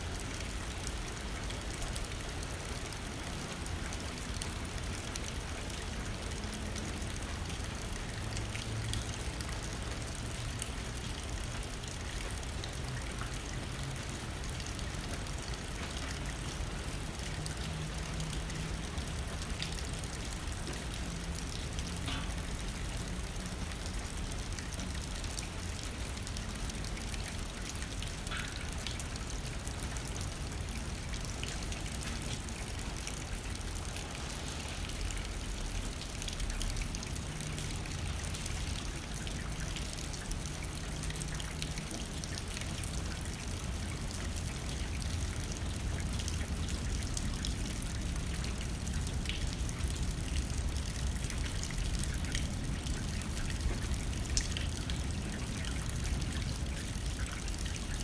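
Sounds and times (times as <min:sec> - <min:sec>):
rain hitting window pane: 0:00.1 - 0:58.0.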